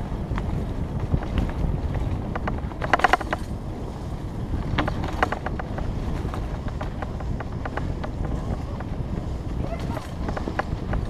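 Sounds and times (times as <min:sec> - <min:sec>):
bike rattling over bumps: 0:00.0 - 0:11.0
bike tyres rumbling on dirt: 0:00.0 - 0:11.0
wind on microphone: 0:00.0 - 0:11.0.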